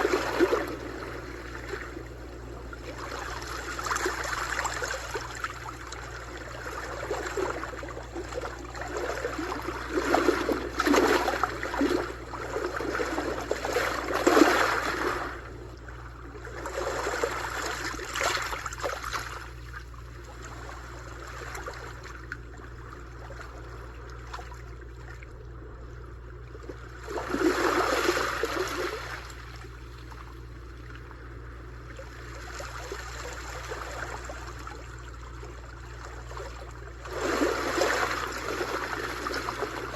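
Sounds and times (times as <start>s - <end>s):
sea waves breaking: 0.0s - 25.1s, 26.6s - 39.9s.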